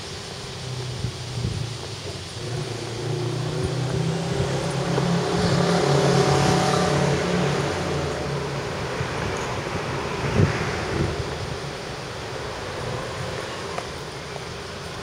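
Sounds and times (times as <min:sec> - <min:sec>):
vehicle engine passing: 0:00.3 - 0:15.0.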